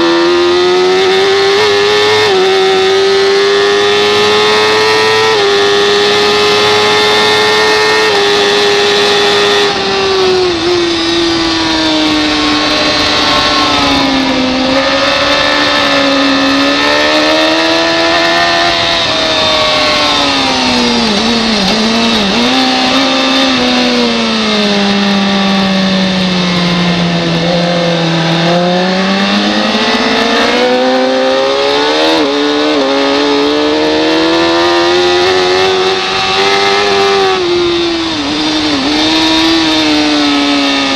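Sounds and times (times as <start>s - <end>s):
racing motorcycle engine revving: 0.0s - 40.9s.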